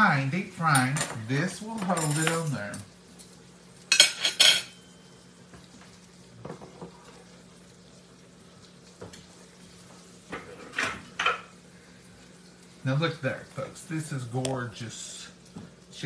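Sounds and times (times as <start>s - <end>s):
oil sizzling: 0.0s - 16.0s.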